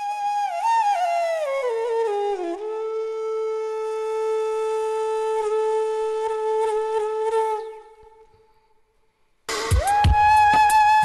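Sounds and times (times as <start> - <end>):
flute-like wind instrument: 0.0 - 8.5, 9.6 - 11.0.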